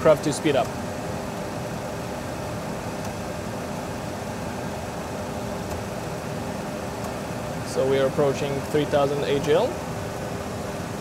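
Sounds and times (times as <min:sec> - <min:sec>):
engine and airflow rush: 0:00.0 - 0:11.0.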